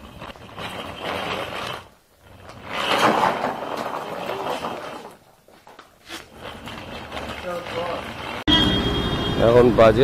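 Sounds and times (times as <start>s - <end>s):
suitcase wheels rolling on rough road: 0.0s - 8.4s.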